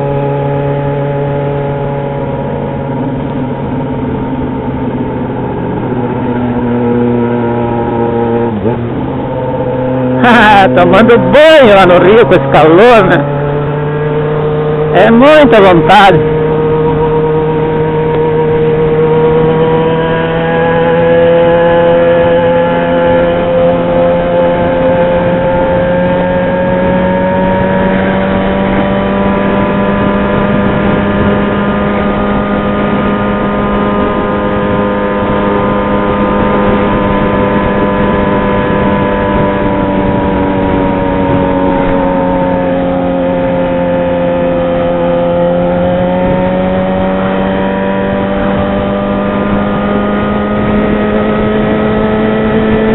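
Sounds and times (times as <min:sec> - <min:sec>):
motorcycle engine cruising: 0:00.0 - 0:52.9.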